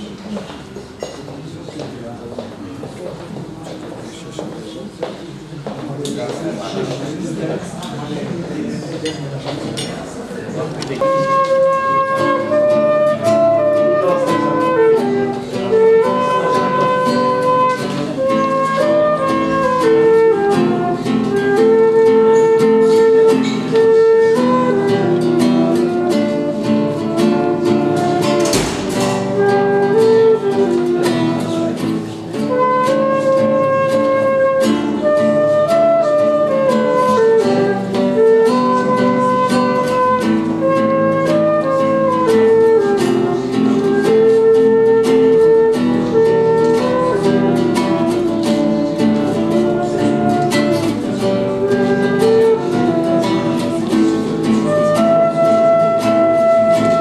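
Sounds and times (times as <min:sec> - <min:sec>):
acoustic guitar accompaniment: 0:00.0 - 0:57.0
flute melody: 0:10.5 - 0:57.0.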